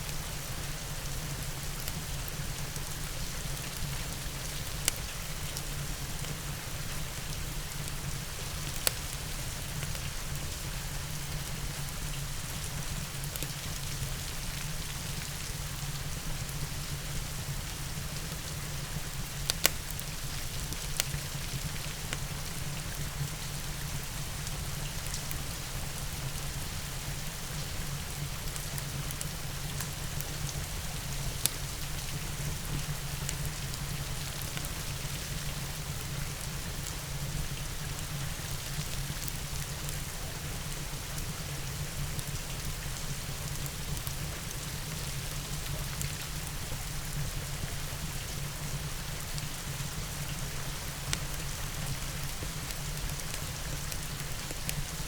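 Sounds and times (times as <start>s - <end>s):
steady rain falling: 0.0s - 55.0s
wood fire crackling: 0.1s - 15.3s, 16.5s - 48.1s, 49.1s - 55.0s.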